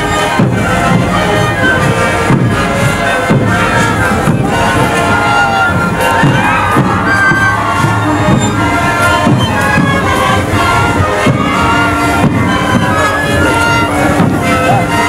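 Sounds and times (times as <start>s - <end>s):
bass drums beating: 0.0s - 15.0s
crowd cheering: 0.0s - 15.0s
panpipes playing held notes: 0.0s - 15.0s.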